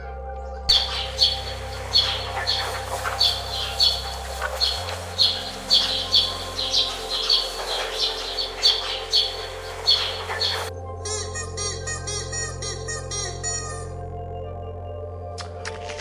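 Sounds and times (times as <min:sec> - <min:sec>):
low steady hum: 0:00.0 - 0:15.6
bird chirping: 0:00.4 - 0:13.8.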